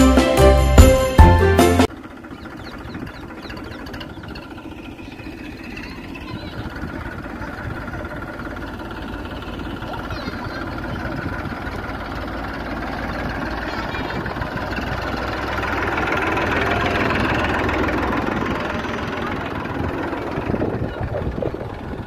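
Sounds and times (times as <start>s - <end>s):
tractor diesel engine knocking: 0.8s - 22.0s.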